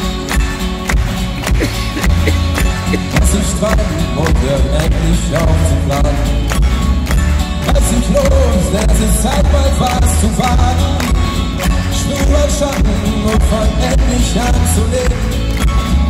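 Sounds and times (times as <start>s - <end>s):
acoustic guitar: 0.0s - 16.0s
drums: 0.0s - 16.0s
upright double bass: 0.0s - 16.0s.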